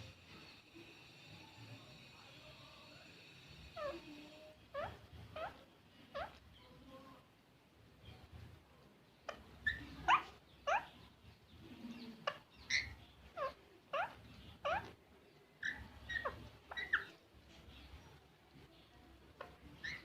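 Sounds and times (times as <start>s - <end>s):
parrot chirping: 0.0s - 6.8s, 9.2s - 18.1s, 19.3s - 20.0s.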